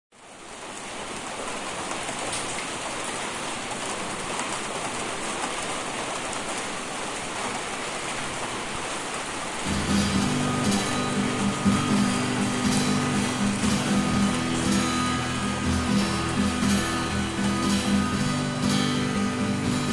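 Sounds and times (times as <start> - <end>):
steady falling rain: 0.1 - 19.9.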